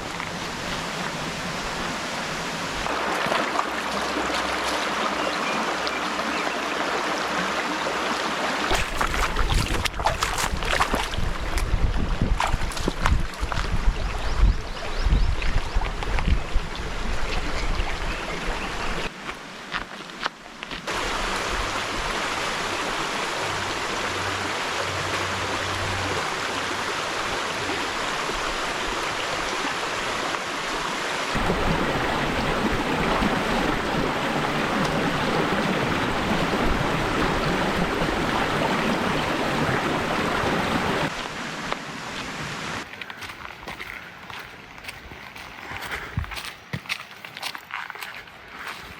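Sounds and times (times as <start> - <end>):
rushing stream water: 0.0 - 48.9.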